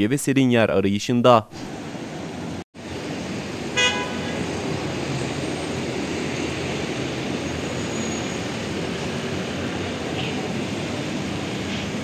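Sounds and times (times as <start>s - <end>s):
distant traffic hum: 1.5s - 12.0s.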